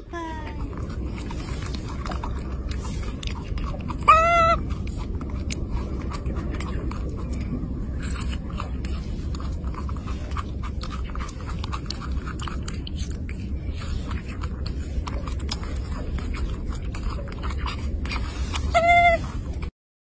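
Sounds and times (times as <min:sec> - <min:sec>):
animal chewing and crunching: 0:00.0 - 0:19.7
low hum: 0:00.0 - 0:19.7.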